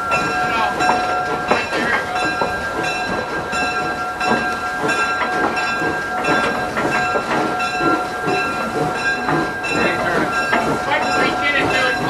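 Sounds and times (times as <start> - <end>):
railcar rumbling on track: 0.0 - 12.0.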